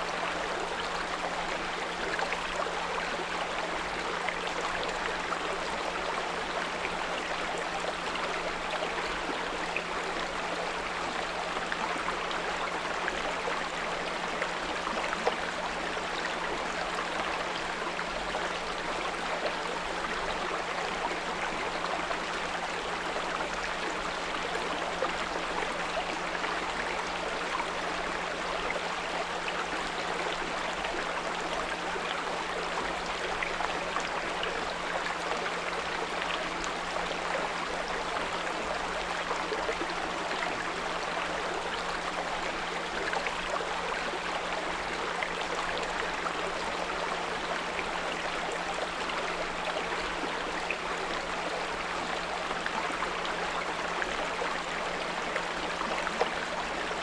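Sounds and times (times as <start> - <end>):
brook flowing: 0.0 - 57.0.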